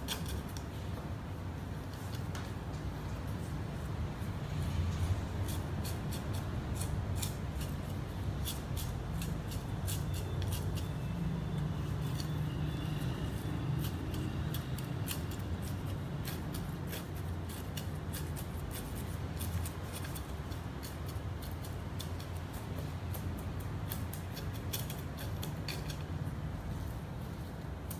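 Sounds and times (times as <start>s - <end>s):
stick scratching soil in a pot: 0.0s - 27.9s.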